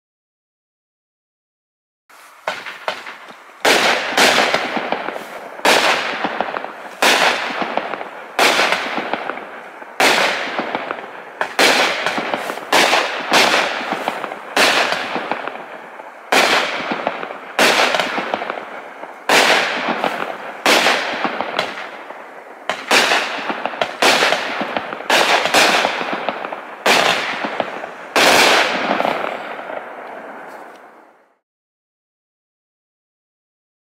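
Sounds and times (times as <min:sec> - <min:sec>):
fireworks bangs: 0:02.1 - 0:31.4.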